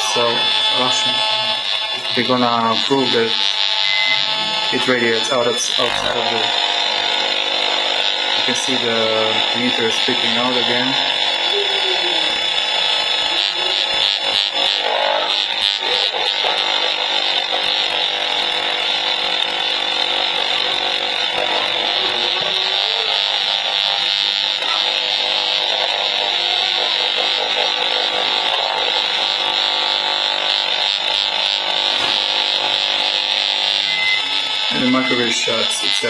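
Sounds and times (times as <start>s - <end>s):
meter buzzing and crackling: 0.0s - 36.0s
microwave oven hum: 0.0s - 36.0s.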